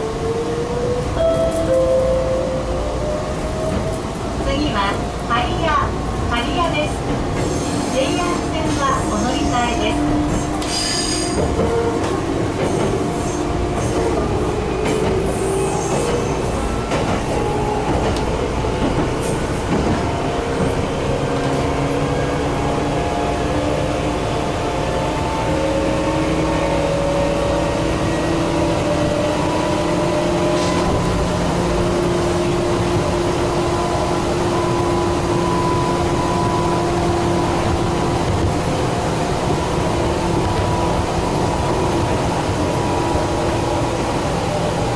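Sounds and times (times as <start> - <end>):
train wheels rumbling: 0.0 - 44.9.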